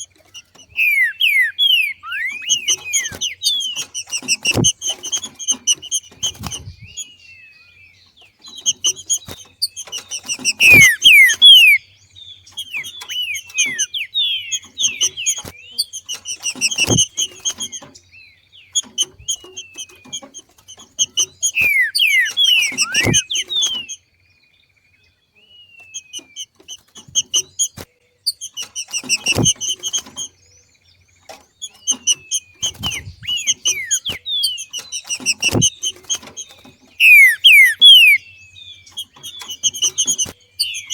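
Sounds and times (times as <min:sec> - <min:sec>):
bird calling with whistled notes: 0:00.0 - 0:40.9.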